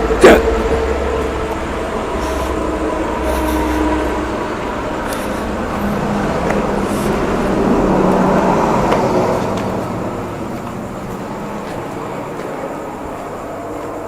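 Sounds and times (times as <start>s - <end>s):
passing vehicle rushing: 0.0s - 14.0s.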